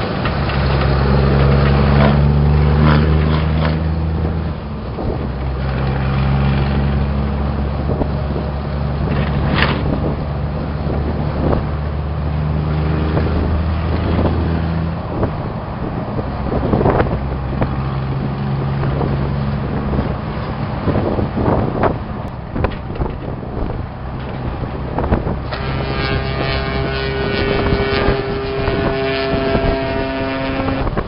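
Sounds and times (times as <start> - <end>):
vehicle engine drone: 0.0 - 31.0
wind noise on microphone: 0.0 - 31.0.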